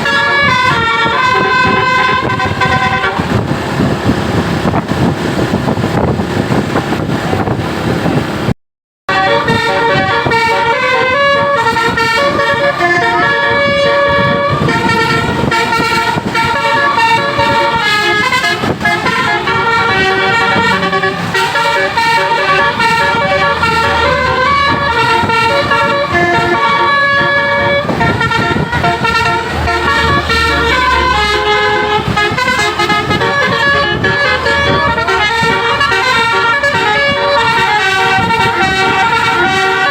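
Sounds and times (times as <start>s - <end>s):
bus horn melody: 0.0s - 6.1s, 9.1s - 39.9s
road and engine noise: 0.0s - 39.9s.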